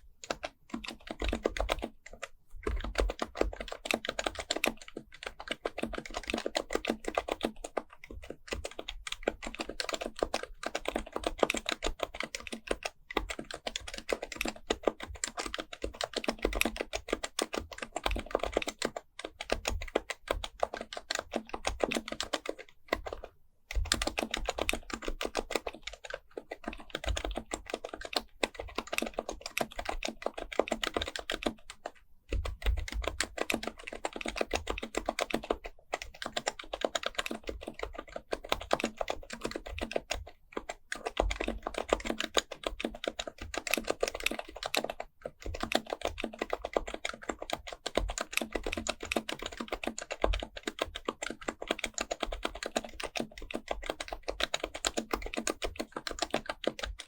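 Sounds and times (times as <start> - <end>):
fast typing on keyboard: 0.0 - 57.0.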